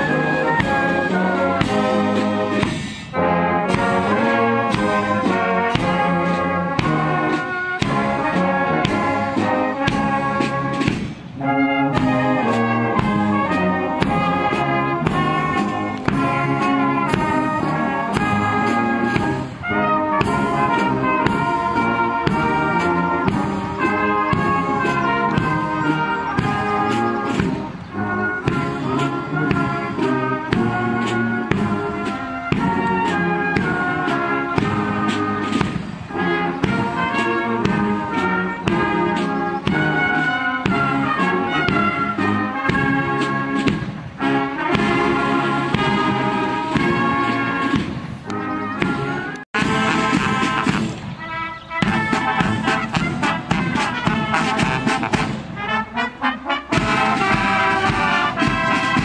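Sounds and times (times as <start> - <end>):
brass band playing a march: 0.0 - 59.0
drum beats: 0.0 - 59.0.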